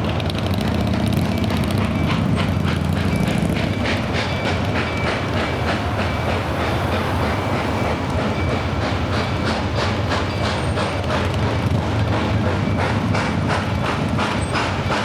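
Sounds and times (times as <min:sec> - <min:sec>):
train running by: 0:00.0 - 0:15.0.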